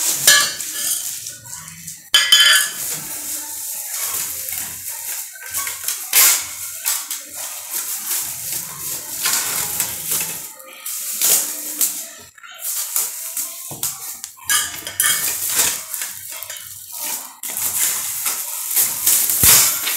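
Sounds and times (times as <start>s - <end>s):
metal fan parts clinking: 0.0s - 12.0s, 13.9s - 19.9s
plastic wrapping crinkling: 0.0s - 19.9s.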